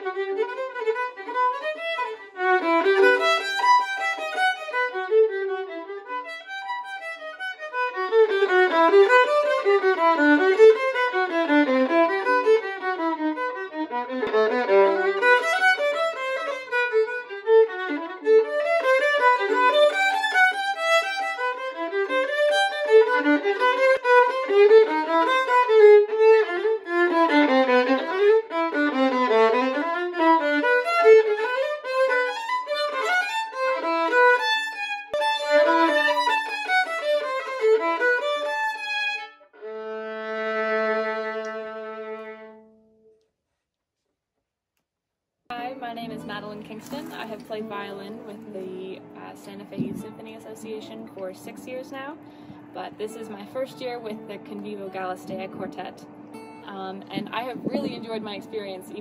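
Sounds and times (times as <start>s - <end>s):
solo violin playing: 0.0s - 43.2s, 45.5s - 59.0s.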